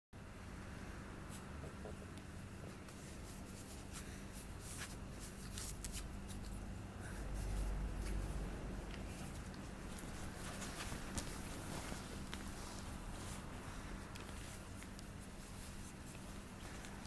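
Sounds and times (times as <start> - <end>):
low electrical hum: 0.2 - 17.0
faint scratching and rustling: 1.3 - 17.0.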